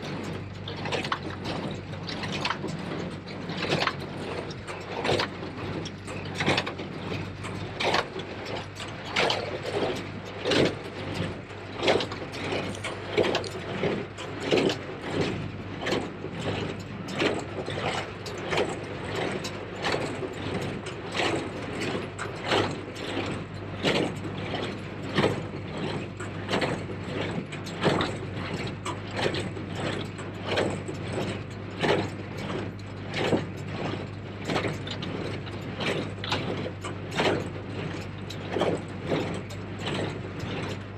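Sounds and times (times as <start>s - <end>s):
tractor engine hum: 0.0s - 40.9s.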